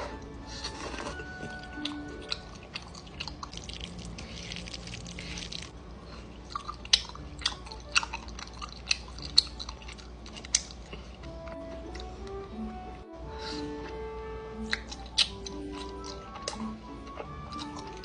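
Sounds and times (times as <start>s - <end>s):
person chewing food: 0.0s - 12.5s, 14.6s - 18.0s.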